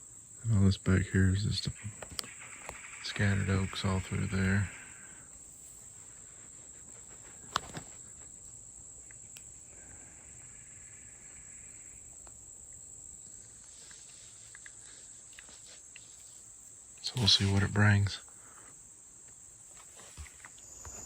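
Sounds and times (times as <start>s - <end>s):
crickets and insects chirping: 0.0s - 21.0s.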